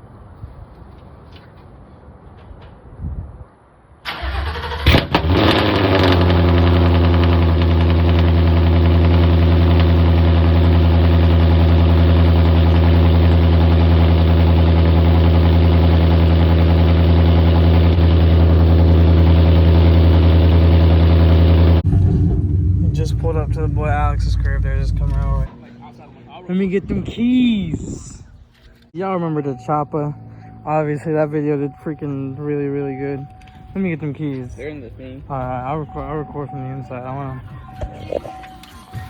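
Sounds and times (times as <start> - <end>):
car engine starting and idling: 4.1 - 26.8, 27.8 - 39.0.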